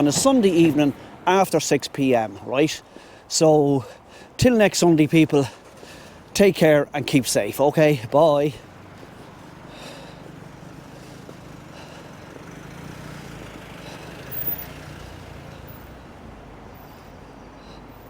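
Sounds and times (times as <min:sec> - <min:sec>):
vehicle passing rumble: 0:00.0 - 0:03.2, 0:05.2 - 0:18.0.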